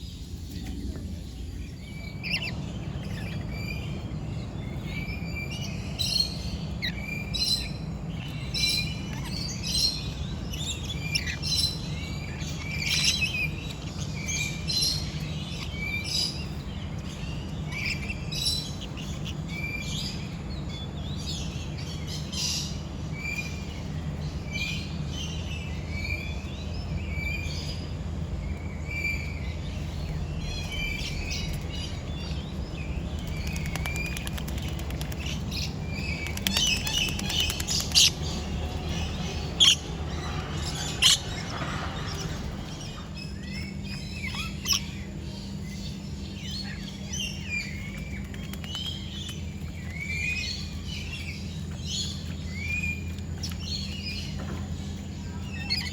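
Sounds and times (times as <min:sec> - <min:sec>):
birds chirping and calling: 0:00.0 - 0:55.9
steady low hum: 0:00.0 - 0:55.9.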